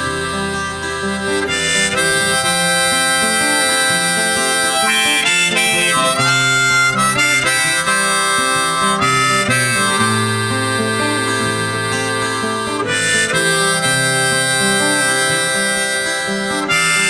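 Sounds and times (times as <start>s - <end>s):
guitar: 0.0s - 17.0s
harmonica solo: 0.0s - 17.0s.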